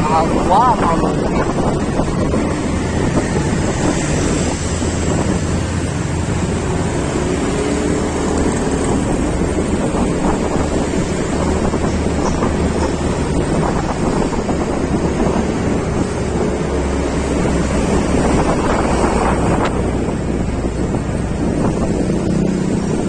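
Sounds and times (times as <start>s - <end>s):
engine and road rumble: 0.0s - 23.0s
wind rushing over microphone: 0.0s - 23.0s.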